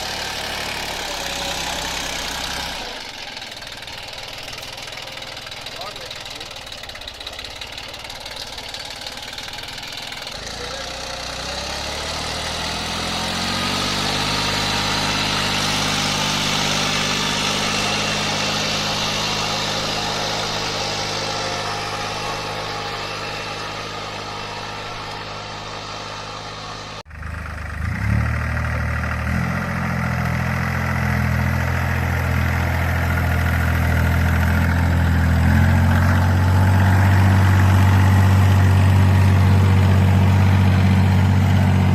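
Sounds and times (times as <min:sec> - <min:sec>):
mini tractor engine running: 0:00.0 - 0:41.9.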